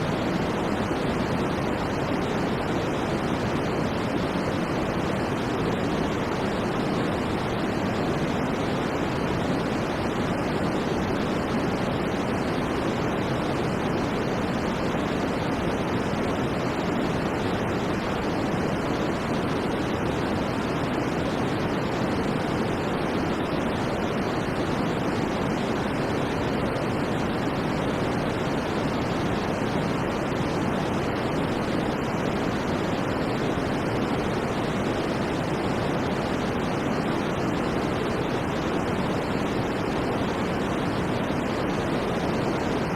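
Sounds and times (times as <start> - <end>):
steady white noise: 0.0 - 42.9.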